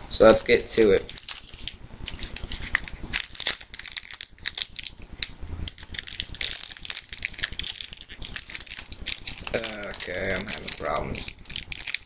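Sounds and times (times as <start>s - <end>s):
plastic wrapper crinkling: 0.7s - 12.0s.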